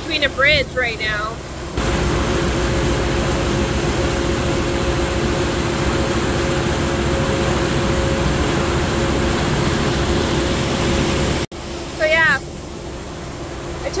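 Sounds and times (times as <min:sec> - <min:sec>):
boat engine droning: 0:00.0 - 0:14.0
wind and water rushing: 0:00.0 - 0:14.0.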